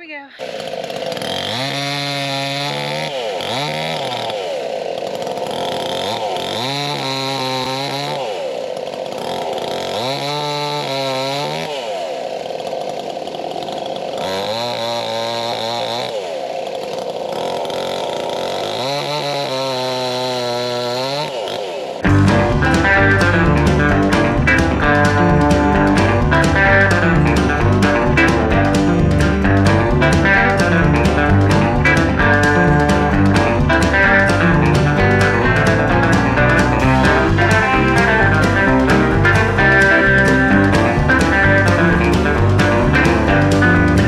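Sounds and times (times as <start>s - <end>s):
chainsaw cutting: 0.0s - 44.0s.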